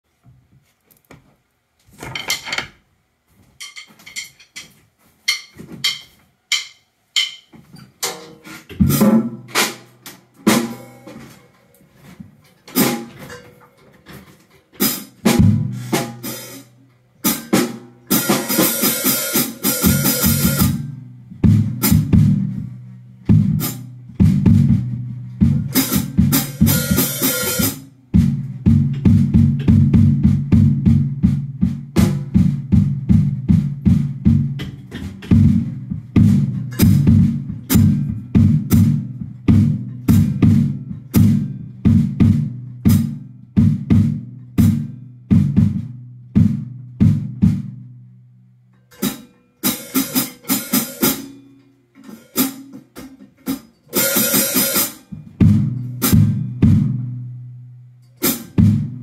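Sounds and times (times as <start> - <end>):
drum kit played with sticks: 3.6 - 59.0.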